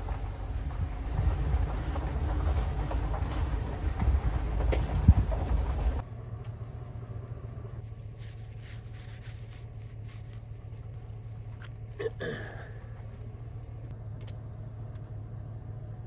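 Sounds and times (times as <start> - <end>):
vehicle driving rumble: 0.0 - 16.0.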